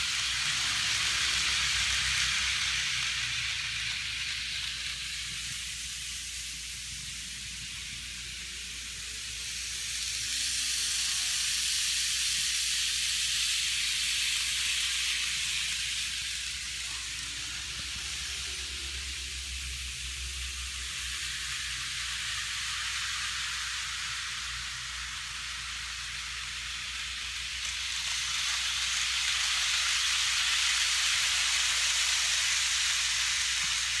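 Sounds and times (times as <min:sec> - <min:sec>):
model train whirring on track: 0:00.0 - 0:34.0.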